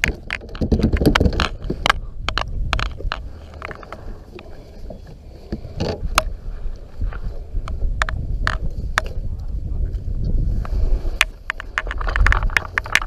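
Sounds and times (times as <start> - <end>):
gear clicking and scraping on kayak: 0.0 - 13.0.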